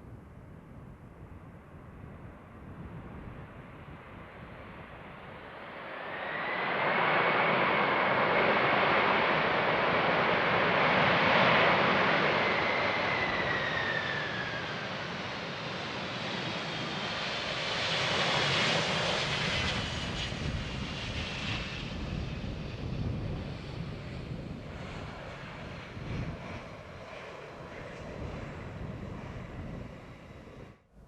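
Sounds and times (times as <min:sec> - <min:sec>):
jet airliner passing by: 0:02.0 - 0:30.8.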